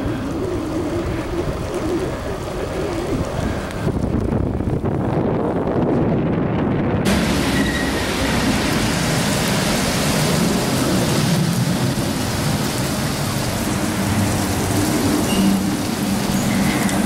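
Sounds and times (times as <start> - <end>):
rain hissing: 0.0 - 5.1, 7.1 - 17.0
bicycle tyres on wet pavement: 0.0 - 17.0.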